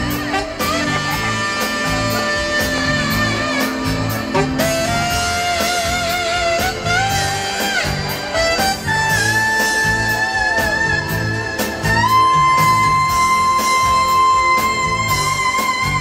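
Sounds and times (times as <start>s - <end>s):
backing music with steady beat: 0.0s - 16.0s
saxophone playing slow melody: 0.0s - 16.0s.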